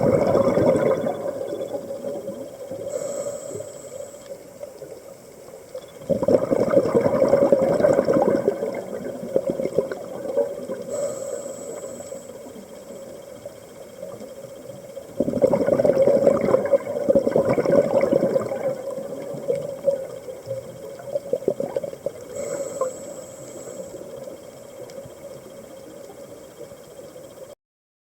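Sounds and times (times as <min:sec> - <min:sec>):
exhaled air bubbling: 0:00.0 - 0:04.9, 0:05.7 - 0:27.5
steady low hum: 0:00.0 - 0:27.6.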